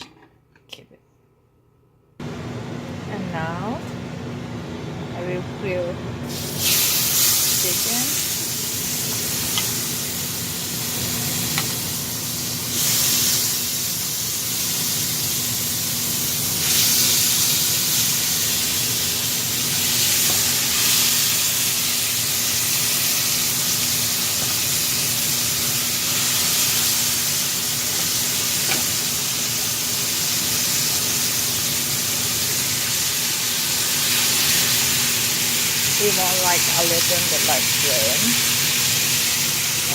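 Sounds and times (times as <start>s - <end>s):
chicken sizzling in a pan: 6.3s - 39.9s.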